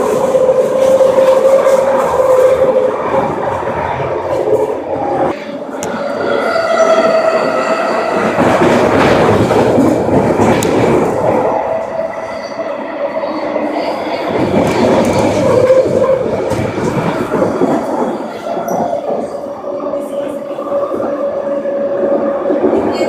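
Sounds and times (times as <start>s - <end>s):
train rumble and wheel noise: 0.0s - 23.0s.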